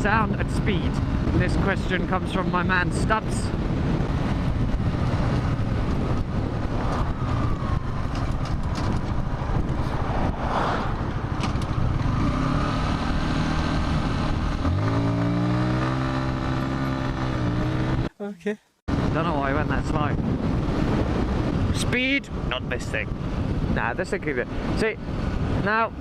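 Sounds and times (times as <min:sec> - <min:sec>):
wind rush on microphone: 0:00.0 - 0:18.1, 0:18.9 - 0:26.0.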